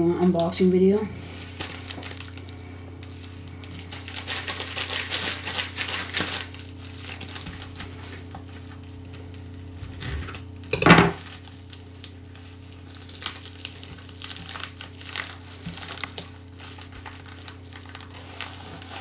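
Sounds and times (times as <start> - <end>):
packaging crinkling and rustling: 1.3 - 10.5, 11.2 - 19.0
package ripping open: 1.6 - 9.4, 11.2 - 19.0.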